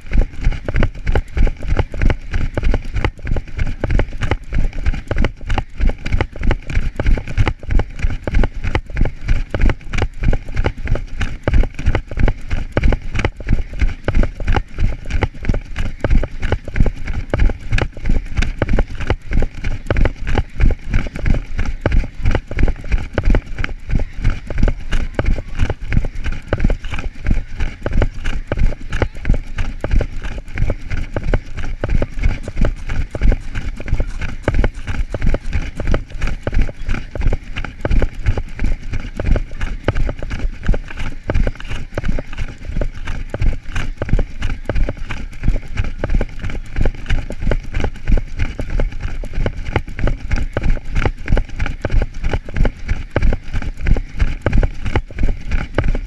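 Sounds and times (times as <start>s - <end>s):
running footfalls on grass: 0.0s - 56.0s.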